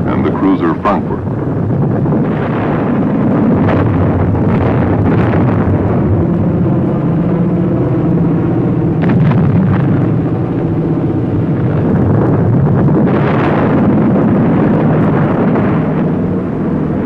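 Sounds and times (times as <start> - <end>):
propeller aircraft engines droning: 0.0 - 17.0
rumble of bomb blasts: 0.0 - 17.0.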